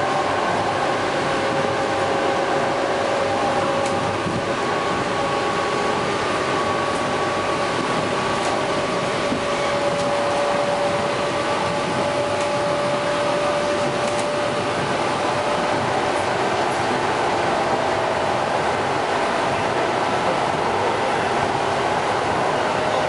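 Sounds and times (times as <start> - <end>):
electric train whine: 0.0 - 23.0
train rumble and rush: 0.0 - 23.0.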